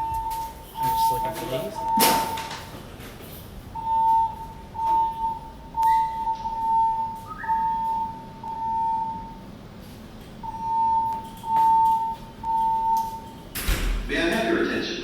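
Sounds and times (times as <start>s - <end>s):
fire alarm beeping: 0.0s - 13.5s.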